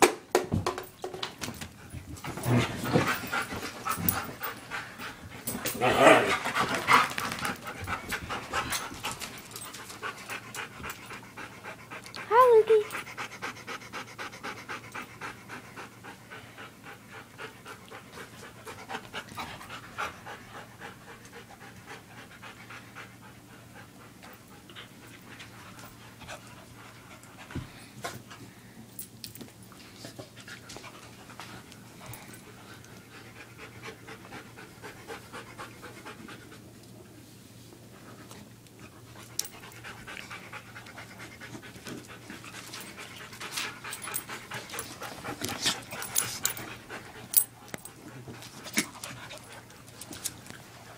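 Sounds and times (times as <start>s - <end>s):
dog panting: 1.7s - 28.4s, 30.0s - 36.8s, 38.0s - 50.9s.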